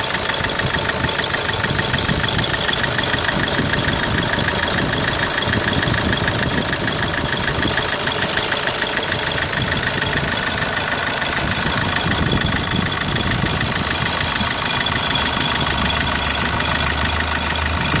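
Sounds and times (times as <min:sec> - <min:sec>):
diesel engine idling: 0:00.0 - 0:18.0
engine ticking clatter: 0:00.0 - 0:18.0.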